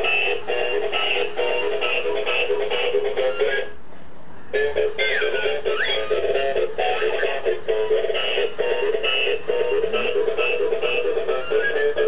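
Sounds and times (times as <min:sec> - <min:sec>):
toy electronic melody: 0:00.0 - 0:03.8, 0:04.6 - 0:12.0.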